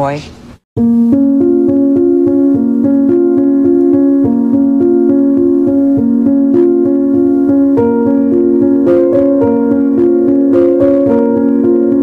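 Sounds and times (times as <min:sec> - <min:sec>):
piano music: 0:00.8 - 0:12.0.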